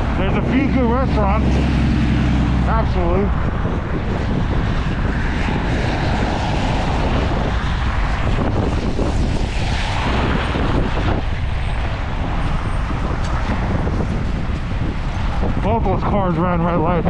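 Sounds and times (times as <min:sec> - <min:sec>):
passing cars: 0:00.0 - 0:17.0
wind buffeting microphone: 0:00.0 - 0:17.0.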